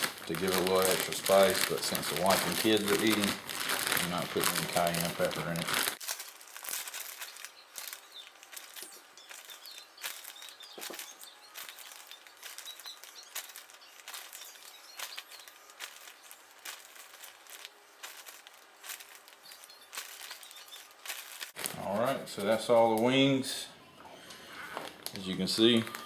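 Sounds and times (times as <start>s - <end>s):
plastic bag rustling: 0.0s - 23.3s, 24.2s - 26.0s.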